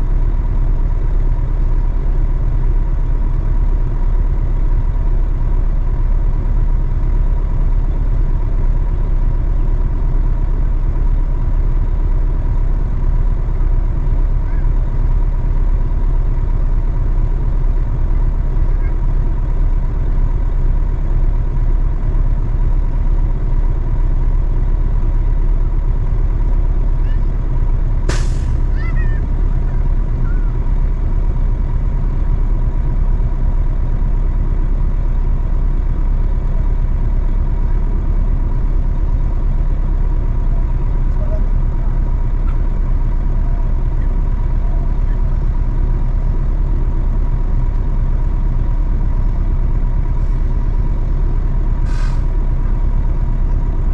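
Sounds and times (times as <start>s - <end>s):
truck engine rumbling: 0.0s - 53.9s.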